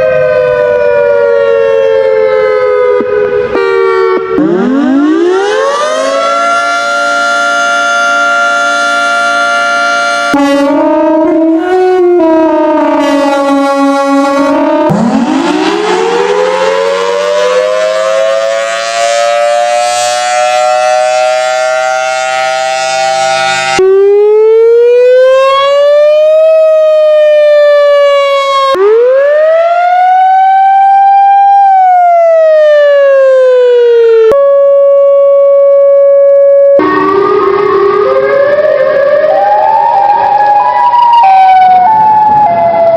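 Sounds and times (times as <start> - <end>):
siren stepping between pitches: 0.0 - 42.9
steady siren tone: 0.0 - 42.9
tornado warning sirens wailing: 0.0 - 42.9.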